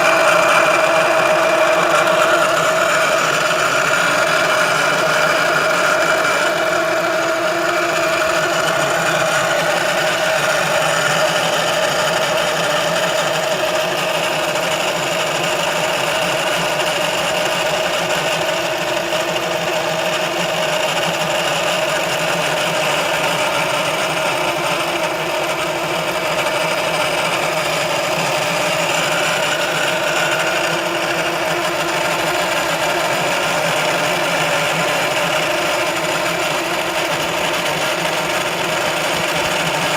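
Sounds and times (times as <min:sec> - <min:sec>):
car running hum with whine: 0:00.0 - 0:39.9.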